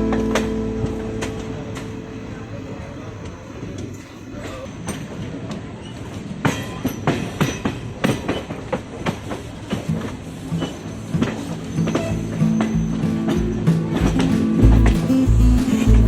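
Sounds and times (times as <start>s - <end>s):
wheels clacking over rail joints: 0.0s - 14.8s.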